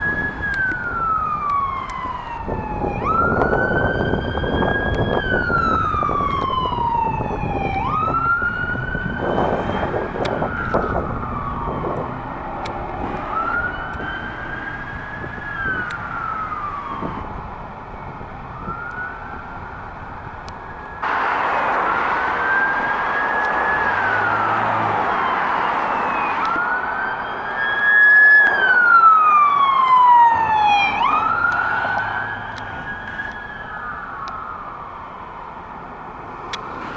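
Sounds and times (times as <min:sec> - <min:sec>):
passing traffic: 0:00.0 - 0:36.9
police siren wailing: 0:00.0 - 0:36.9.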